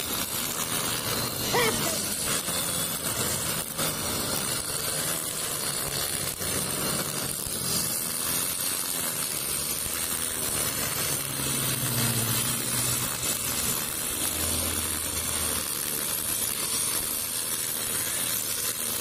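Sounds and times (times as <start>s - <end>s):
brush cutter engine running: 0.0s - 16.6s
nylon line cutting grass: 0.0s - 19.0s.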